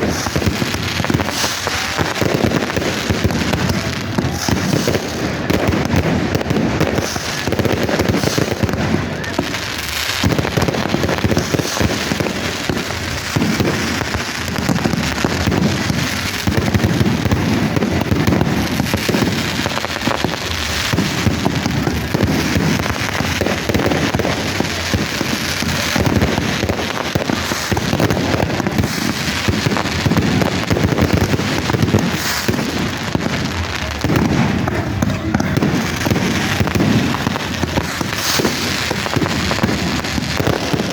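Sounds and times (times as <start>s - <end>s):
fireworks crackling and popping: 0.0s - 40.9s.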